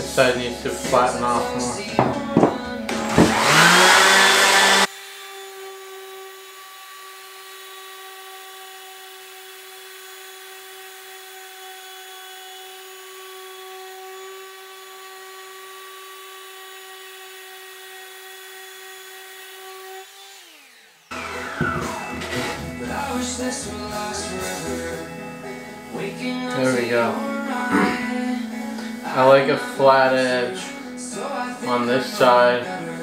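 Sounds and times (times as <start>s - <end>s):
orbital sander sanding wood: 0.9s - 25.2s, 25.8s - 30.8s.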